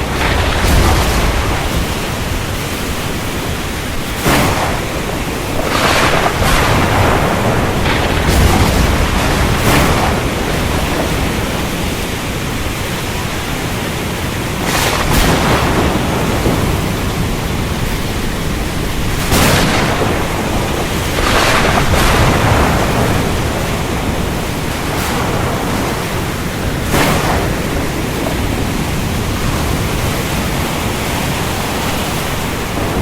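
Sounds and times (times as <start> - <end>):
heavy rain: 0.0 - 33.0
thunder cracks: 0.0 - 33.0.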